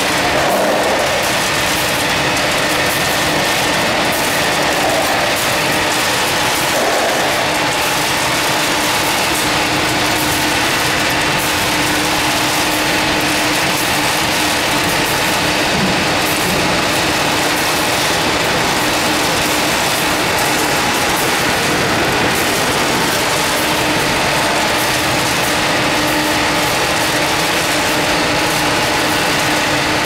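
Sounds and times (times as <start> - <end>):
machine clattering: 0.0 - 30.0.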